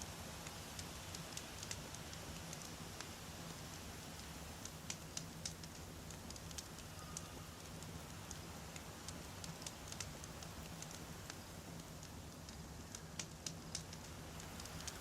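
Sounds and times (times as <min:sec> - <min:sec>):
campfire pops and crackles: 0:00.0 - 0:15.0
low fire rumble: 0:00.0 - 0:15.0.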